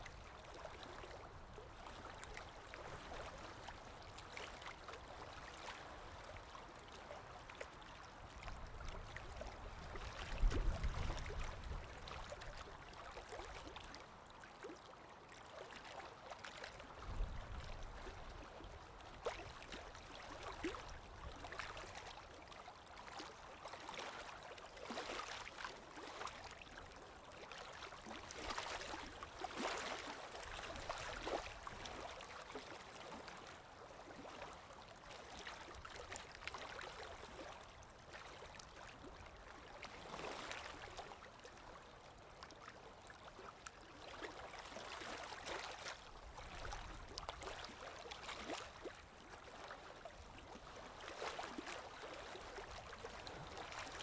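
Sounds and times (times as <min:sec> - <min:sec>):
stream trickling and gurgling: 0:00.0 - 0:54.0.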